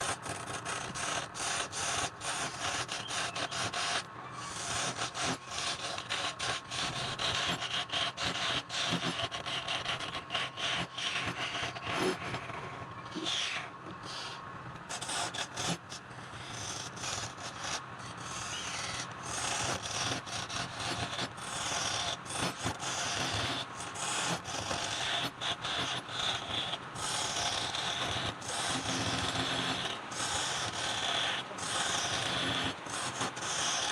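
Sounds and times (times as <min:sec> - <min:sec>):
lathe tool scraping wood: 0:00.0 - 0:33.9.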